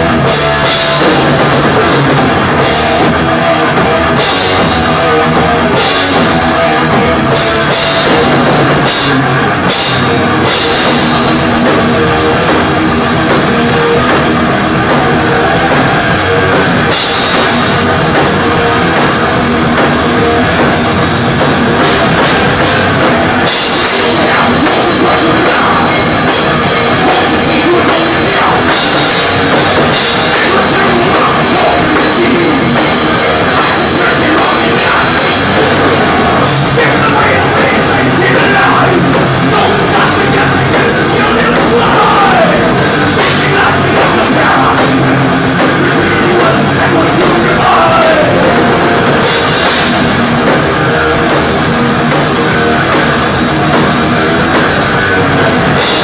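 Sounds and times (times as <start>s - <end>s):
drum kit: 0.0s - 56.0s
live metal band playing: 0.0s - 56.0s.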